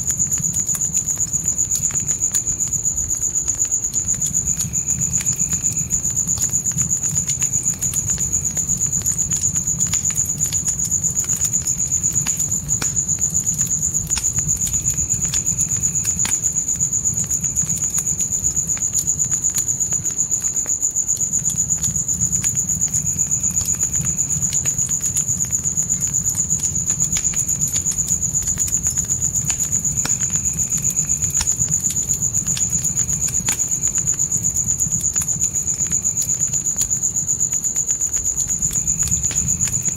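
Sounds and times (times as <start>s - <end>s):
crickets chirping: 0.0s - 39.9s
low rumble of burning: 0.0s - 39.9s
wood fire crackling: 0.0s - 39.9s.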